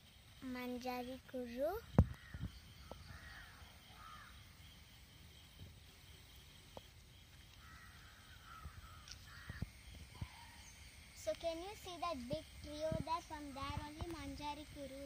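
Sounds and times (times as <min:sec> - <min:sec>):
distant harsh bird calls: 0:00.0 - 0:14.7.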